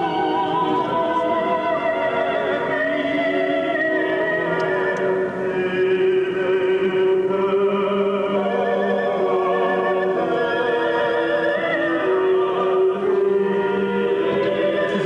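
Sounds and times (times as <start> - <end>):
instrumental accompaniment: 0.0 - 15.0
opera singing: 0.0 - 15.0.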